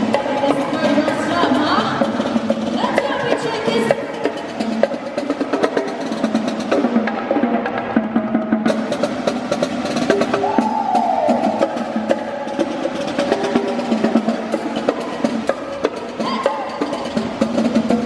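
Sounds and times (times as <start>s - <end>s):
backing music: 0.0s - 18.0s
rapid drumming: 0.0s - 18.0s.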